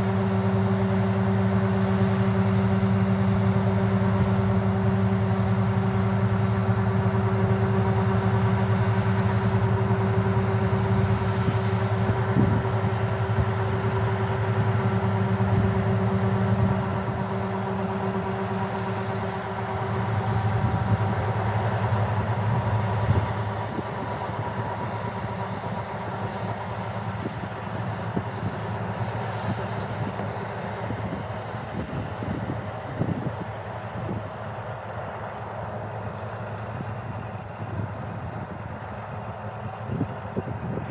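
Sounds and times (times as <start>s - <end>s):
vehicle engine humming: 0.0s - 40.9s.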